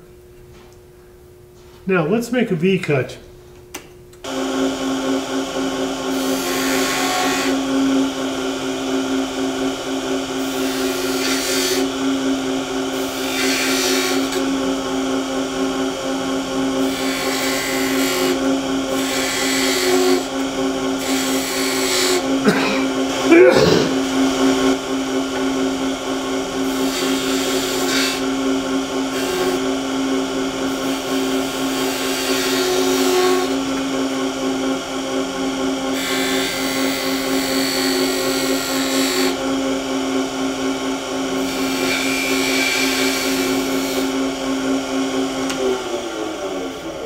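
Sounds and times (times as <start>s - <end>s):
lathe motor hum: 4.2s - 47.0s.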